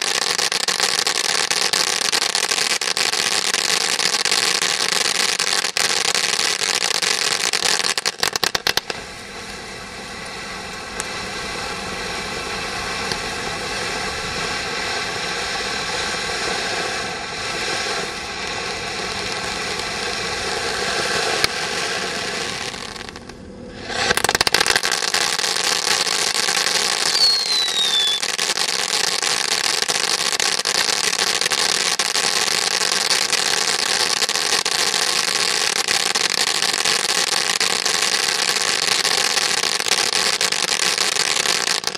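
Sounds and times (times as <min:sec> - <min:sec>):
crackling firework hiss: 0:00.0 - 0:41.9
firework fountain hissing sparks: 0:00.0 - 0:41.9.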